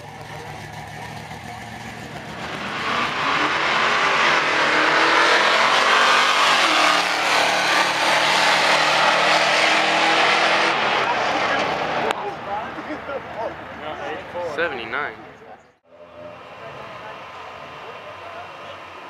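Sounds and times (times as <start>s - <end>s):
drag racing cars accelerating: 0.0s - 13.1s, 15.9s - 19.0s.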